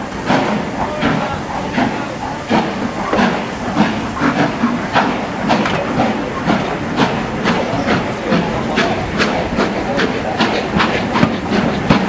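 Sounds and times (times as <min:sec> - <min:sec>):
steam hissing: 0:00.0 - 0:12.0
steam locomotive exhaust beats: 0:00.0 - 0:12.0.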